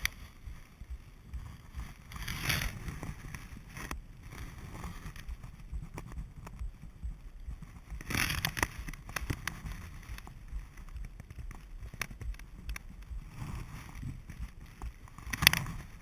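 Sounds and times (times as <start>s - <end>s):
clicks and rustles: 0.0s - 16.0s
wind buffeting microphone: 0.0s - 16.0s.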